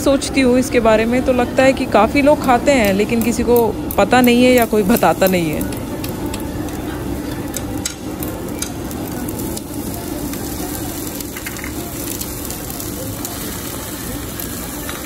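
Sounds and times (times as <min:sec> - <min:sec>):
fat crackling and popping: 0:02.8 - 0:15.0
pork sizzling on griddle: 0:02.8 - 0:15.0.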